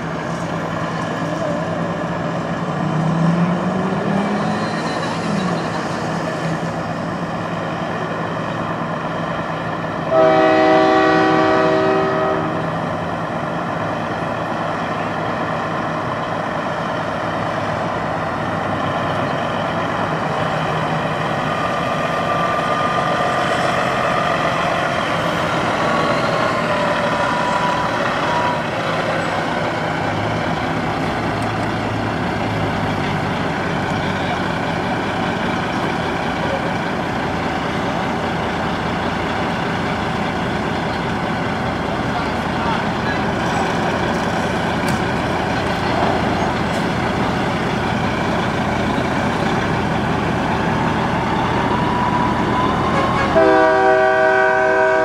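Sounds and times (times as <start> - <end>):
truck diesel engine running: 5.4 - 55.0.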